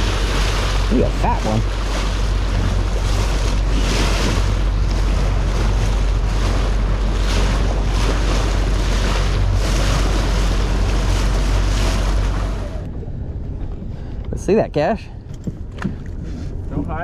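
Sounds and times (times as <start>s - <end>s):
low rumble: 0.0s - 17.0s
water washing against boat: 0.0s - 17.0s
wind buffeting microphone: 0.0s - 17.0s.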